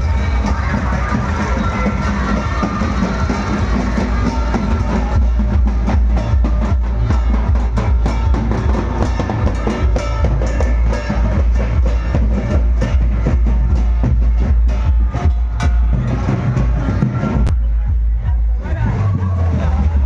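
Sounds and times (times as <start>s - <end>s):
loud music with pounding drums: 0.0s - 20.0s.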